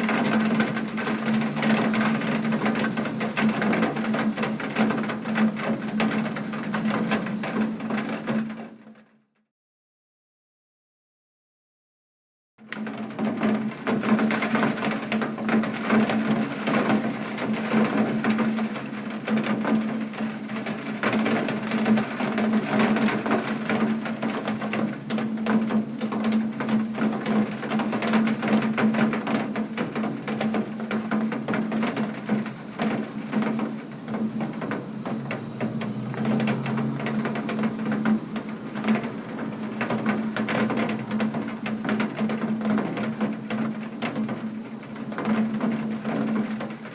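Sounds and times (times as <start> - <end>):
rain on a hard surface: 0.0 - 8.8, 12.7 - 46.9.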